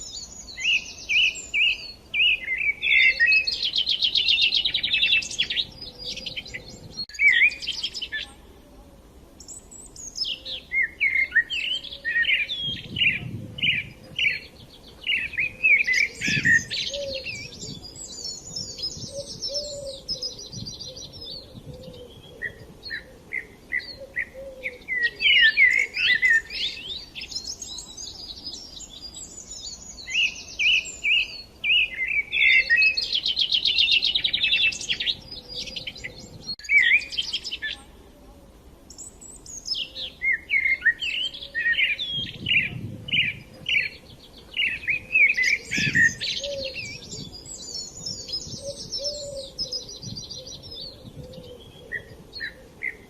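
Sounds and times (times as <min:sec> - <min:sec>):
small songbirds chirping and trilling: 0:00.0 - 0:08.6, 0:09.4 - 0:38.1, 0:38.8 - 0:53.0.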